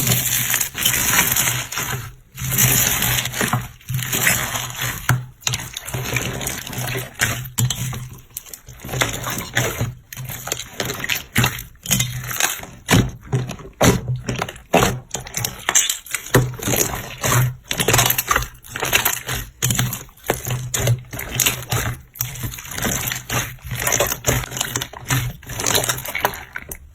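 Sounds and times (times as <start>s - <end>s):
slime squelching and popping: 0.0s - 26.9s.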